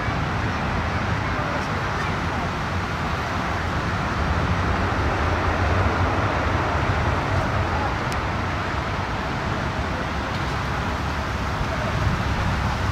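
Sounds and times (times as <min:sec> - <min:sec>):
distant jet engines roaring: 0:00.0 - 0:12.9.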